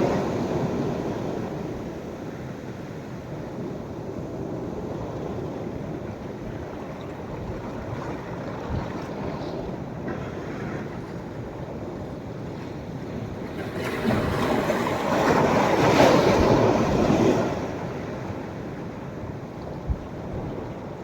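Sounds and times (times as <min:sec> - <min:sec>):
waves washing on beach: 0:00.0 - 0:21.0.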